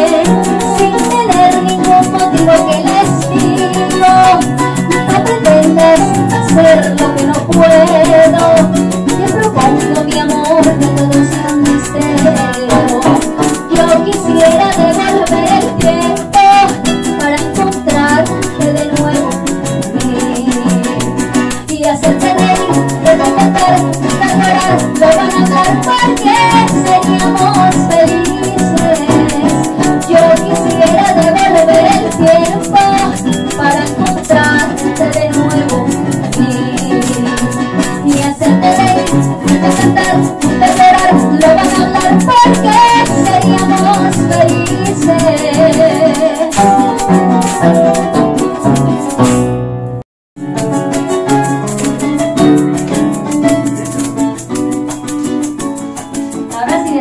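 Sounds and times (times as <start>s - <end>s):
woman singing into a microphone: 0.0s - 47.7s, 56.1s - 57.0s
harp cuatro and maracas music: 0.0s - 57.0s.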